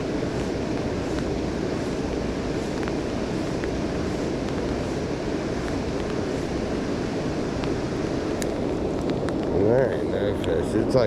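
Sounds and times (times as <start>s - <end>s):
river water pouring over spillway: 0.0s - 11.0s.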